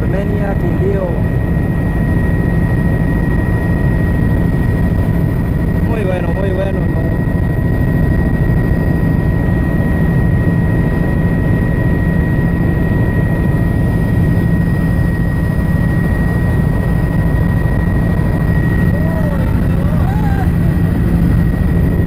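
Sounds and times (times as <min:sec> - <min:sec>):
helicopter engine and rotor drone: 0:00.0 - 0:22.0
high whine: 0:00.0 - 0:22.0.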